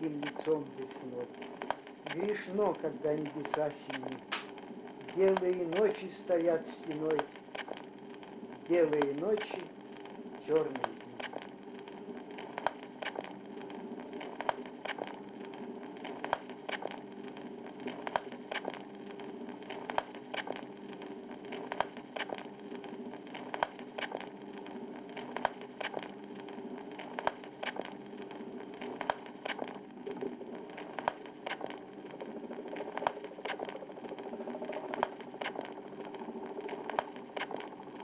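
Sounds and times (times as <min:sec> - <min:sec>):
low steady hum: 0:00.0 - 0:38.0
vinyl record crackle and hiss: 0:00.0 - 0:38.0.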